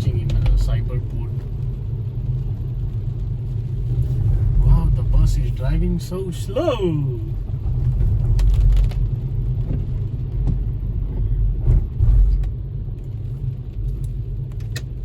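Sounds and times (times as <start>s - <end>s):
vehicle rumbling in traffic: 0.0s - 15.0s.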